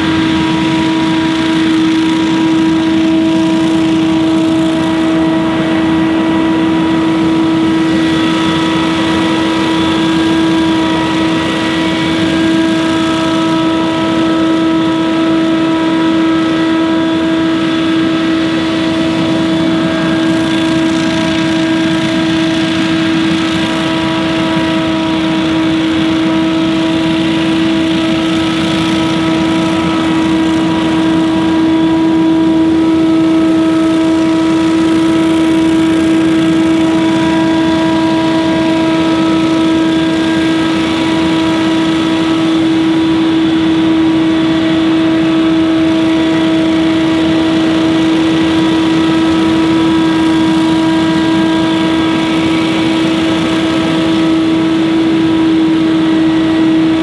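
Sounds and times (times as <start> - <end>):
leaf blower engine humming: 0.0 - 57.0.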